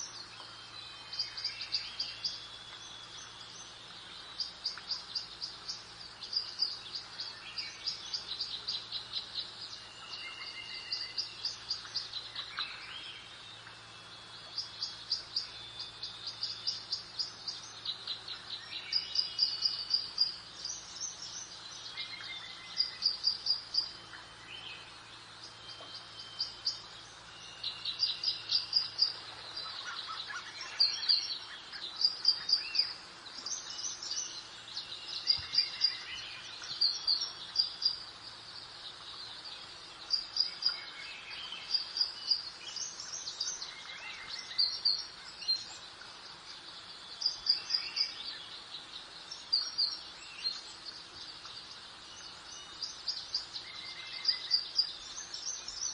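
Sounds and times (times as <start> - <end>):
breeze hiss: 0.0 - 55.9
soft bird calls: 0.0 - 55.9
songbirds singing: 0.0 - 55.9.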